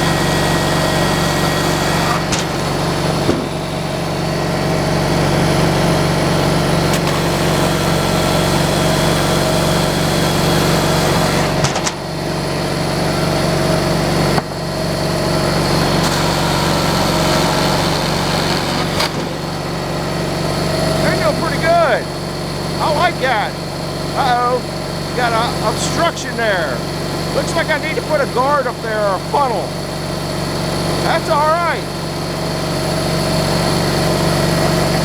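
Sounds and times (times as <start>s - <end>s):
sawmill engine running: 0.0s - 35.0s.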